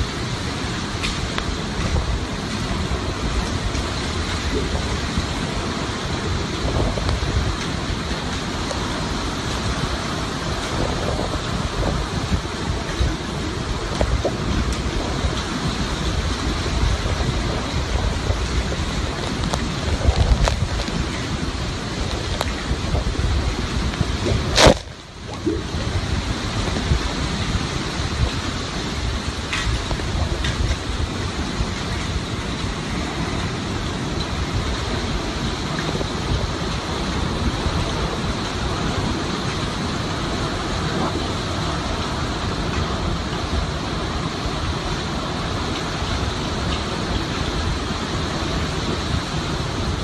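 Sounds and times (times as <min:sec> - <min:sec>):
heavy driving rain: 0:00.0 - 0:50.0
hurricane wind: 0:00.0 - 0:50.0
wind buffeting microphone: 0:00.0 - 0:50.0.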